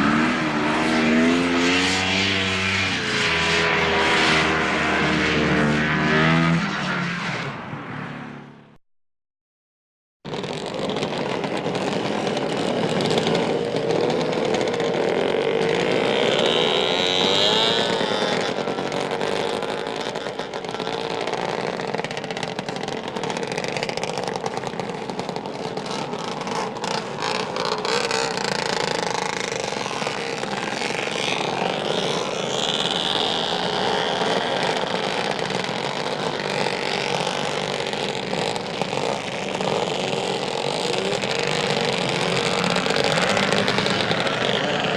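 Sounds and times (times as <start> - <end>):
atv engine revving: 0.0 - 7.1, 10.3 - 44.9.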